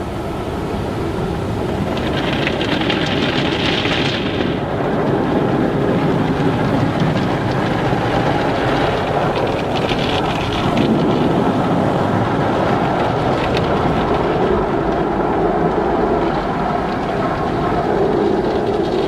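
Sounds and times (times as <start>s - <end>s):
car wash machinery hum: 0.0s - 19.0s.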